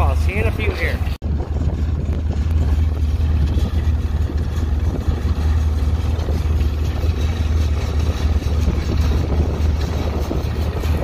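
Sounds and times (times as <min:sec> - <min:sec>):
baler machinery rattling: 0:00.0 - 0:11.0
tractor engine droning: 0:00.0 - 0:11.0.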